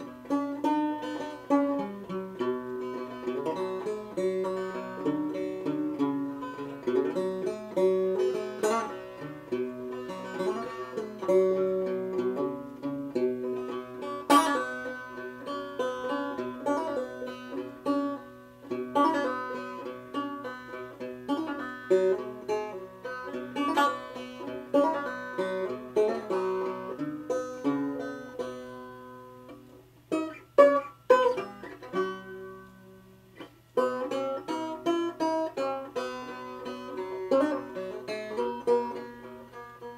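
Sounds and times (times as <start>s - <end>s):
banjo picking: 0.0s - 39.9s.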